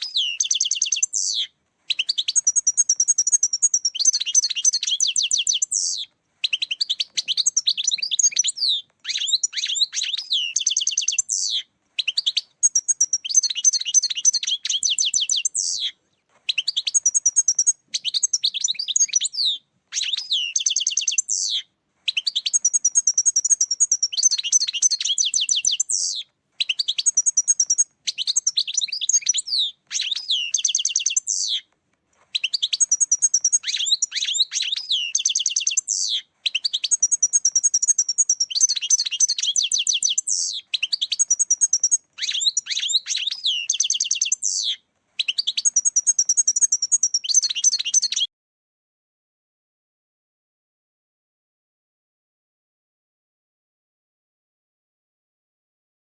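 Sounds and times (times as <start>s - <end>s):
goldfinch twittering song: 0.0s - 31.7s, 32.4s - 48.3s.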